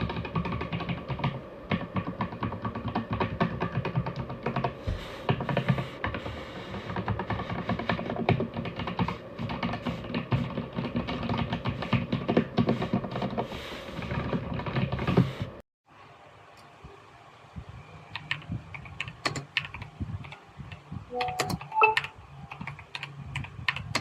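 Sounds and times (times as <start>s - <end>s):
mechanical keyboard typing: 0.0s - 6.2s, 6.8s - 13.4s, 14.0s - 15.3s, 18.1s - 20.4s, 21.1s - 24.0s.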